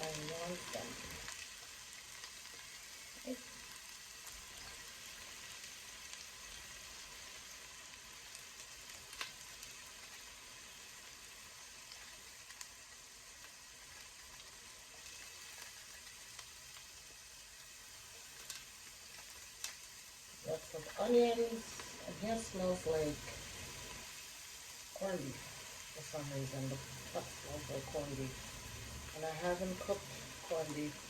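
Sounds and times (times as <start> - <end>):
onions sizzling in hot oil: 0.0 - 31.0.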